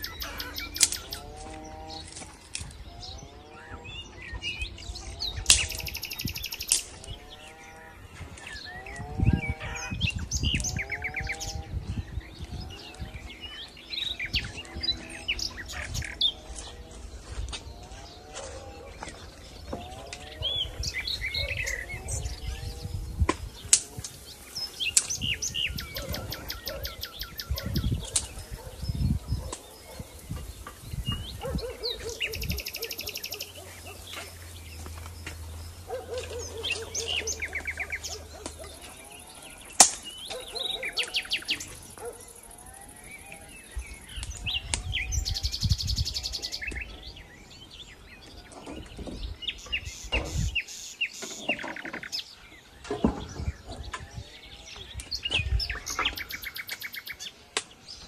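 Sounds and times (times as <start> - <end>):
birds singing and chirping: 0.0 - 58.0.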